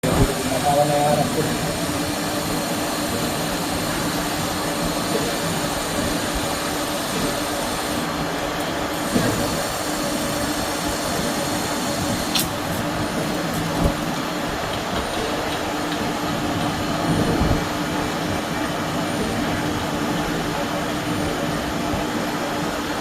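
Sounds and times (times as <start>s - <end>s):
milling machine rushing hum: 0.0s - 23.0s.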